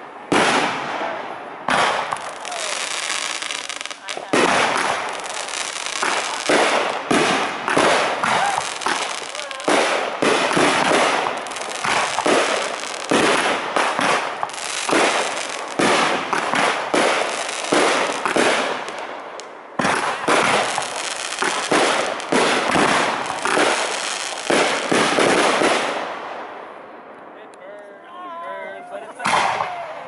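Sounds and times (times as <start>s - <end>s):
fireworks bursting with booms: 0.0s - 27.1s, 29.2s - 30.0s.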